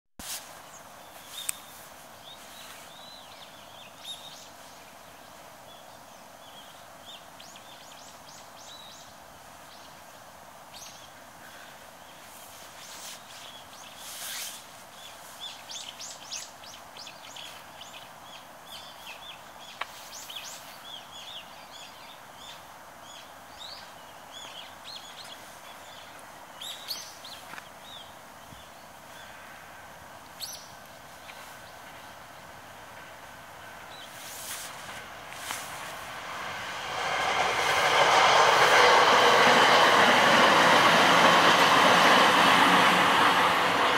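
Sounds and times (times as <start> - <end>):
faint steady train tone: 0.2 - 43.9
outdoor background hiss: 0.2 - 43.9.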